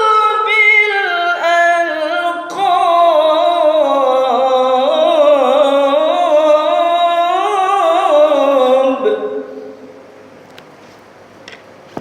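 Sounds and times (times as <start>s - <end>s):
man reciting melodically: 0.0s - 9.9s.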